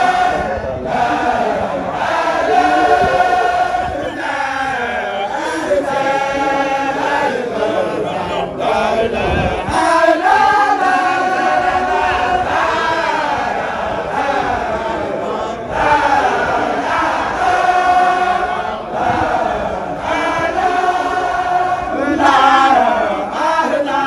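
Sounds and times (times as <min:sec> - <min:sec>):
group chanting in unison: 0:00.0 - 0:24.0.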